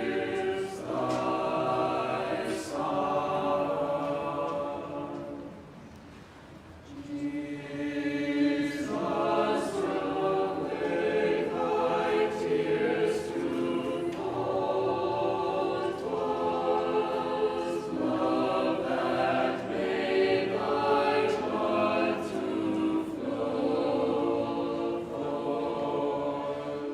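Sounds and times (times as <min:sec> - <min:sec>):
choir singing a chant: 0:00.0 - 0:05.7, 0:06.9 - 0:26.9.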